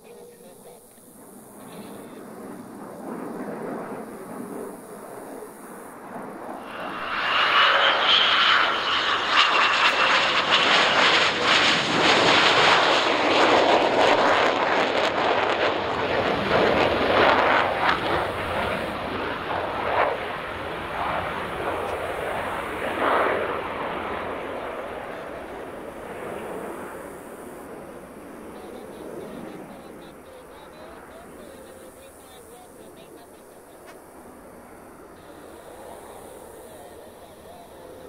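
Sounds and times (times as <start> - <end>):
crackling jet roar: 0.0 - 38.0
jet engine whine: 0.0 - 38.0.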